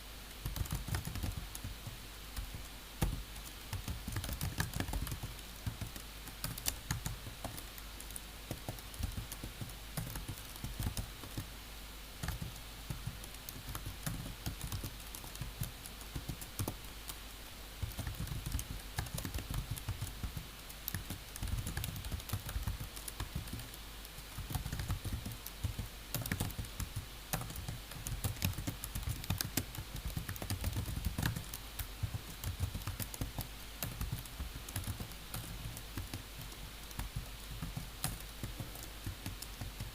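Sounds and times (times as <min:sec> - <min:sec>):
computer keyboard typing: 0:00.4 - 0:01.7, 0:02.4 - 0:11.5, 0:12.2 - 0:17.2, 0:17.8 - 0:23.8, 0:24.4 - 0:39.9.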